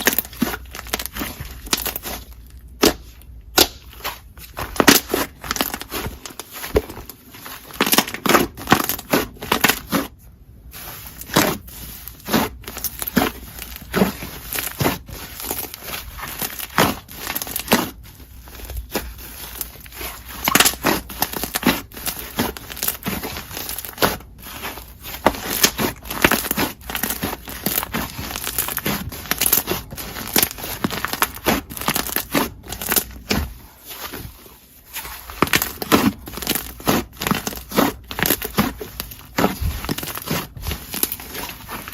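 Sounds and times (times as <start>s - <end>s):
slime squishing and popping: 0.0s - 10.2s, 11.2s - 18.0s, 18.7s - 33.6s, 35.2s - 41.9s.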